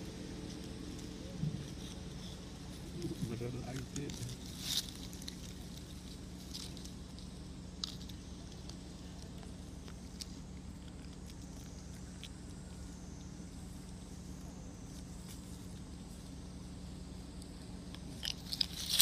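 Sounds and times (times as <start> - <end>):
clicks and rustles in dry leaves: 0.0 - 16.8, 17.4 - 19.0
low background hum: 0.0 - 19.0.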